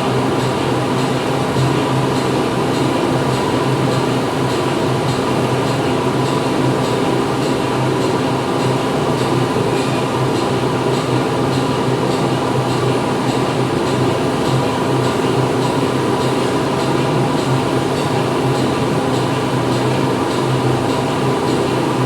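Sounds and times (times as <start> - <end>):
factory machinery hum: 0.0 - 22.0.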